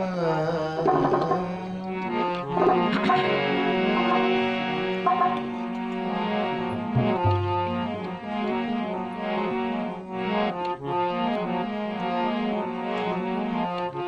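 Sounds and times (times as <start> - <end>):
harmonium melody: 0.0 - 14.0.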